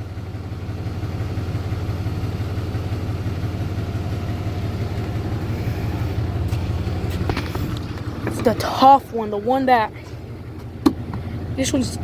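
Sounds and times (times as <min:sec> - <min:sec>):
jet ski engine drone: 0:00.0 - 0:12.0.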